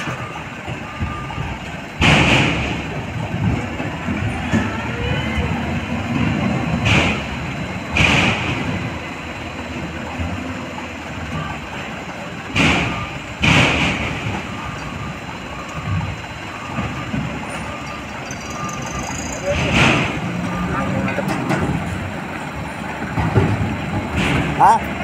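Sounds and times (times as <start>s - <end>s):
diesel truck engines idling: 0.0s - 25.0s.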